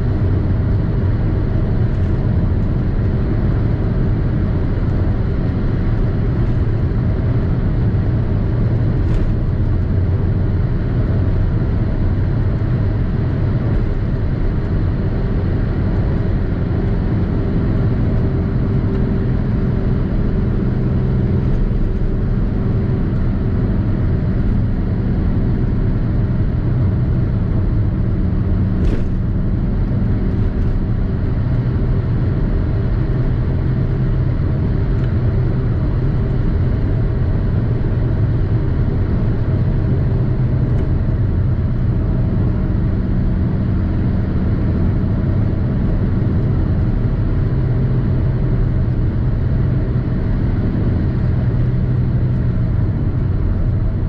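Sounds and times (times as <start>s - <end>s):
engine and road drone: 0.0s - 54.0s.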